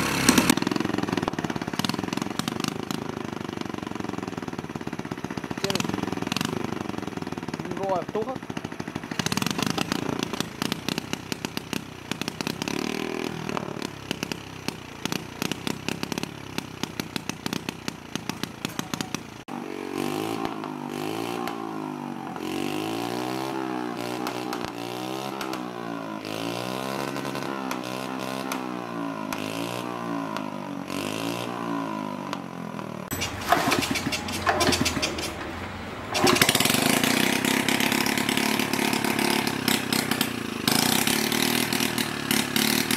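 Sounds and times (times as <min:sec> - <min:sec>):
small engine revving: 0:00.0 - 0:42.9.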